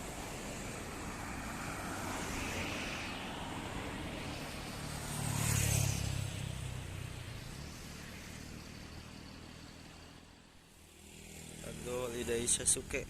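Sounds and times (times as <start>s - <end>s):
vehicle driving past: 0.0s - 13.0s.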